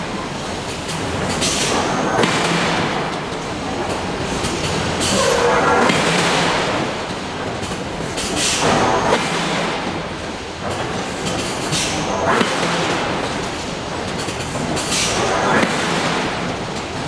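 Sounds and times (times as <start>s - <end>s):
heavy machinery noise: 0.0s - 17.0s.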